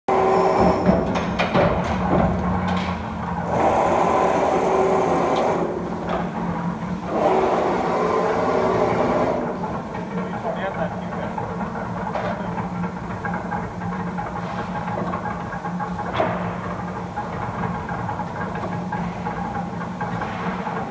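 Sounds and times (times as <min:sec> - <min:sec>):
machine running: 0:00.1 - 0:20.9.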